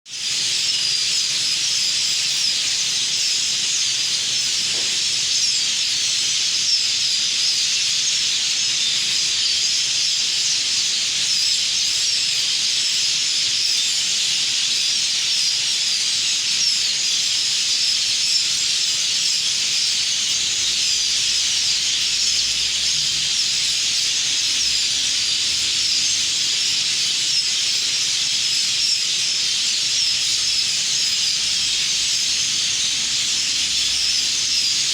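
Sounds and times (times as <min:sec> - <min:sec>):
flock of birds chirping: 0:00.1 - 0:34.9.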